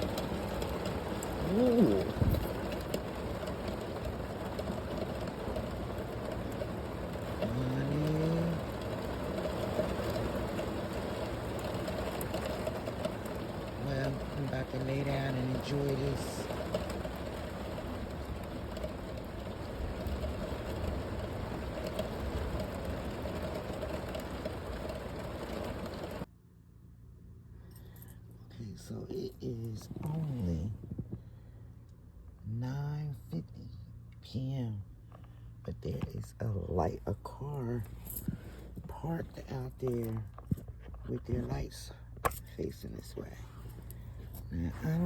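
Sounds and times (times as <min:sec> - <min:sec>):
rain on a van roof: 0:00.0 - 0:26.3, 0:35.0 - 0:45.0.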